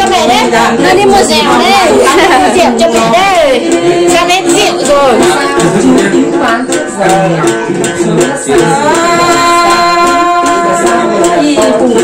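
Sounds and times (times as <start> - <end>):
woman singing folk song: 0.0 - 6.9, 8.5 - 12.0
plucked lute: 0.0 - 12.0.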